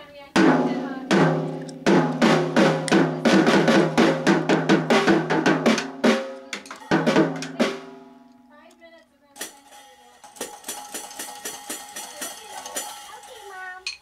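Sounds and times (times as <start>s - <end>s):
drum kit strikes: 0.4s - 8.3s, 9.4s - 13.7s.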